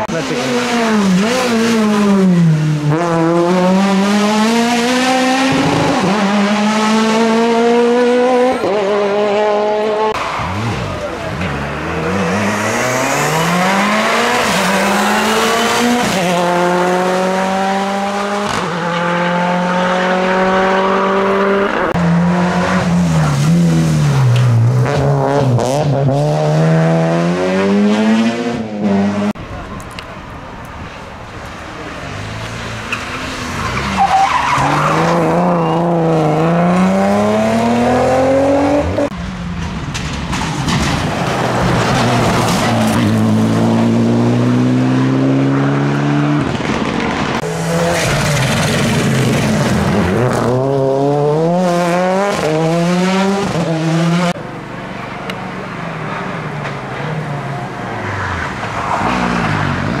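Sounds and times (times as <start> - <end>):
rally car engines revving: 0.0 - 60.0.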